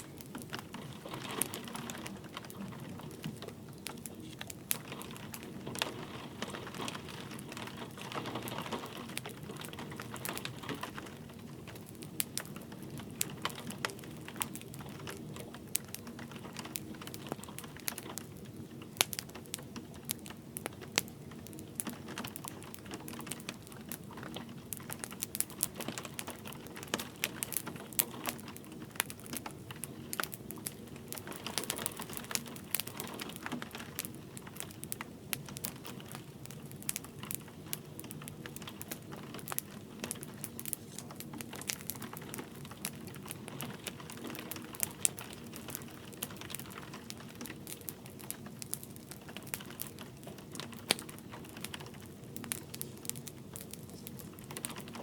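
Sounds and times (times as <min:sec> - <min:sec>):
light rain hissing: 0:00.0 - 0:55.0
wood fire crackling and popping: 0:00.0 - 0:55.0.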